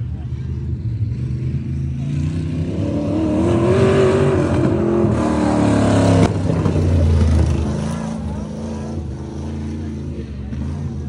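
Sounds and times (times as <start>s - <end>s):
race car engine passing: 0.2s - 11.0s.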